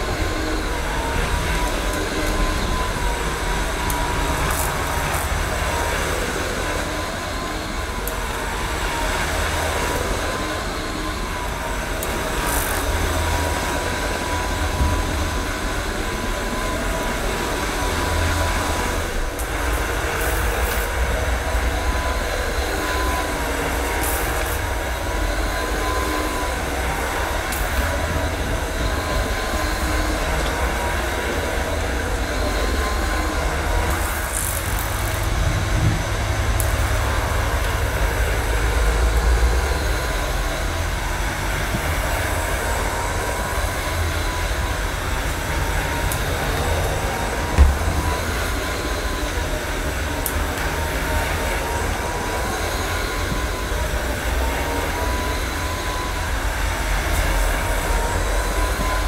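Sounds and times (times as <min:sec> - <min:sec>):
floor cleaner motor whine: 0:00.0 - 0:59.0.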